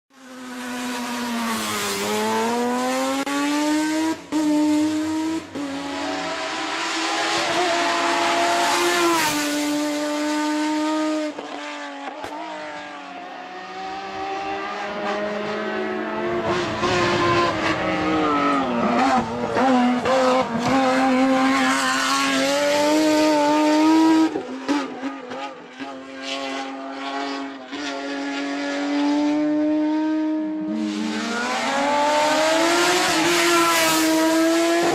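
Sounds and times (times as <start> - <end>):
race car engine at high revs: 0.1 - 34.9.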